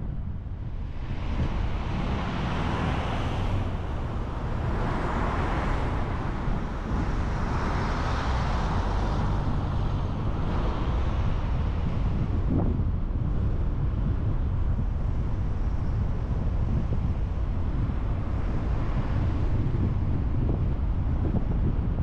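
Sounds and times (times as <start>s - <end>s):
car road noise rumble: 0.0s - 22.0s.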